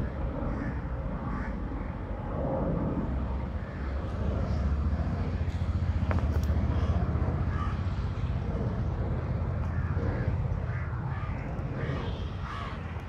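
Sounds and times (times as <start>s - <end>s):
airliner passing overhead: 0.0s - 13.0s.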